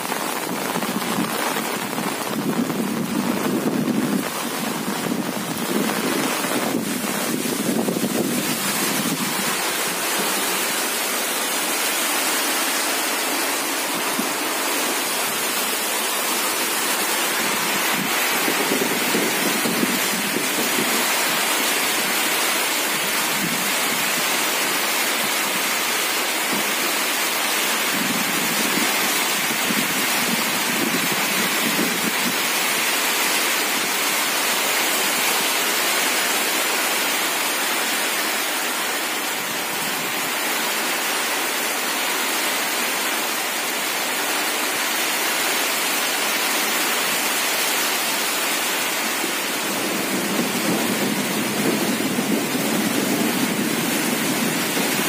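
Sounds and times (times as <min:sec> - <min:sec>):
rain falling: 0:00.0 - 0:55.0
raindrops striking an umbrella: 0:00.0 - 0:55.0.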